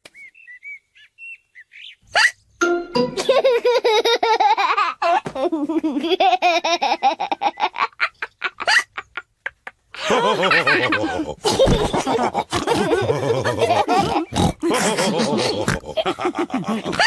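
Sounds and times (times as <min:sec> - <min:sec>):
cartoon characters laughing: 0:03.0 - 0:17.0.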